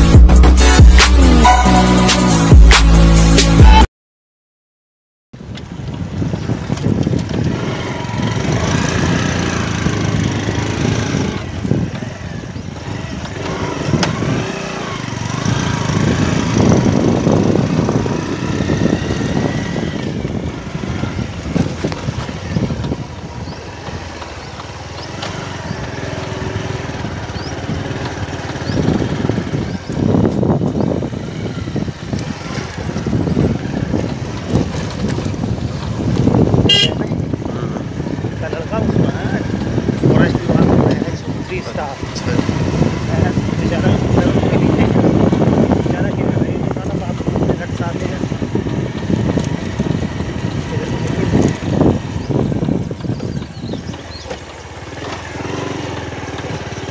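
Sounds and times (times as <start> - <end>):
motorcycle engine rumbling: 5.4 - 56.9.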